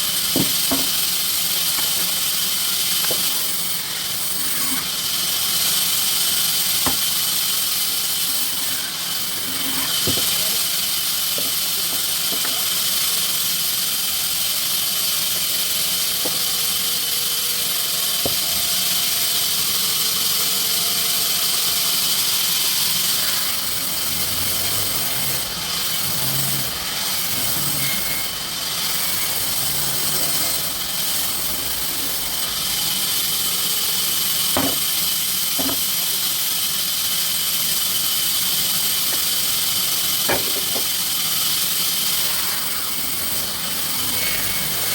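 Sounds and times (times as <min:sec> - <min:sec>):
sawmill machinery whine and hiss: 0:00.0 - 0:44.9.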